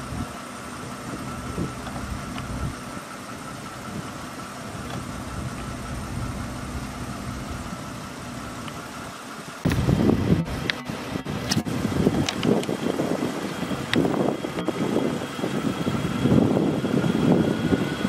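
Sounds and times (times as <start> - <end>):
jet engines high whine: 0.0 - 18.0.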